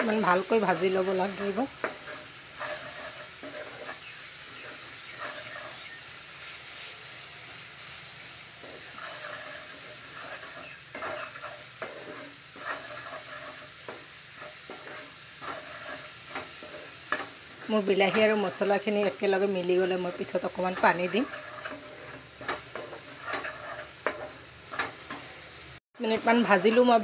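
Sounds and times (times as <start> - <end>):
spatula scraping pan: 0.0 - 6.9, 7.5 - 25.5, 26.1 - 27.0
food sizzling in frying pan: 0.0 - 27.0.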